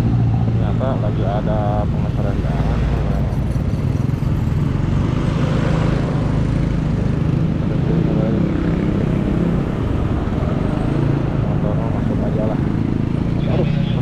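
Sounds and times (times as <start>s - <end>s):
vehicle engine hum and road rumble: 0.0s - 14.0s.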